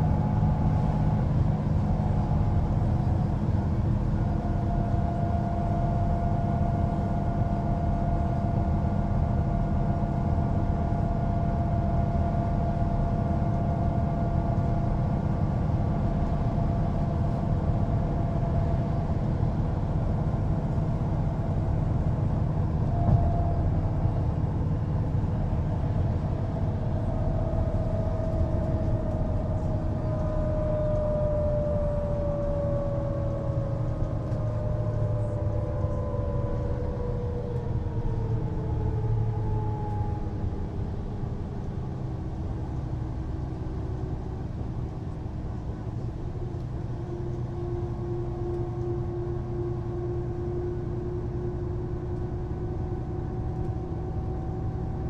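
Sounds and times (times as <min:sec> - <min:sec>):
bus diesel engine running: 0:00.0 - 0:55.0
high drivetrain whine: 0:00.0 - 0:55.0.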